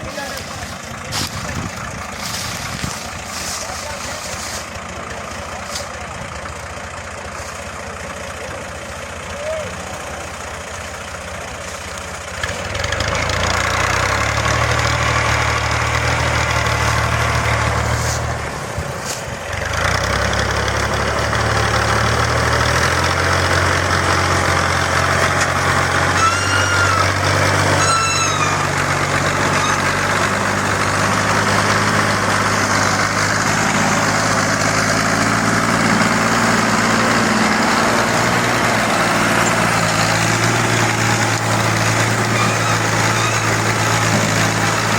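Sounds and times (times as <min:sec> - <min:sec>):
tractor engine running hard: 0:00.0 - 0:44.9.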